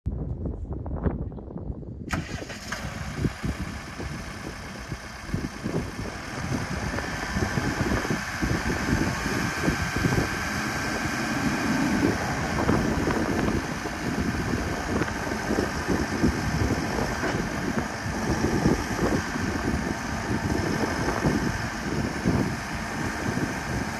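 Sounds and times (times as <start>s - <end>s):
diesel engine starting and running: 2.0s - 23.9s.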